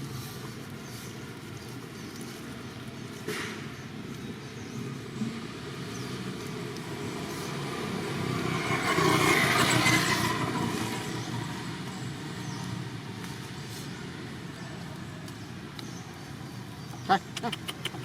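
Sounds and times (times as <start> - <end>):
road vehicle passing: 0.0 - 18.0.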